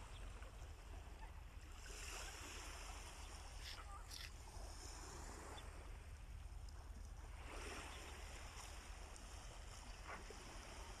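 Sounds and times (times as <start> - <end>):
small waves washing on shore: 0.0 - 11.0.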